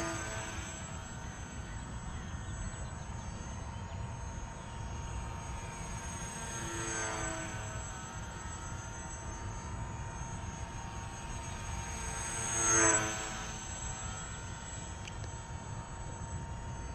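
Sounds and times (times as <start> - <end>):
electric model plane buzzing: 0.0 - 16.9.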